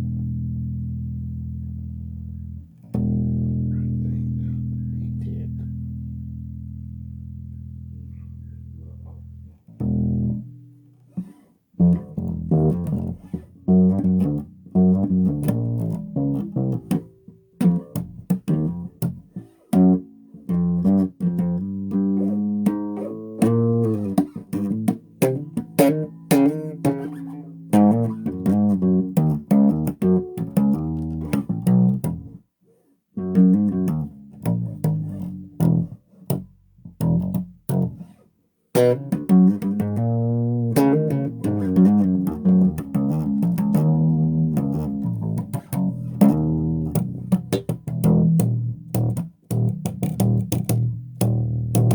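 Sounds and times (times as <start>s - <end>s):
bass guitar plucked notes: 0.0s - 32.4s, 33.2s - 38.1s, 38.7s - 51.9s.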